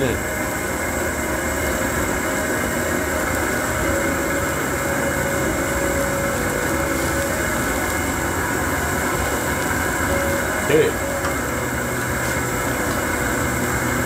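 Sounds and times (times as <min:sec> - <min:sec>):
gas burner rumble and hiss: 0:00.0 - 0:14.0.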